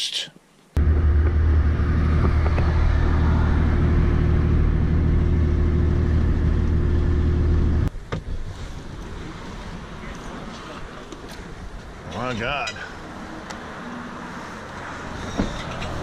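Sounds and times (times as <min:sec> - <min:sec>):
car cabin engine and road noise: 0:00.8 - 0:16.0.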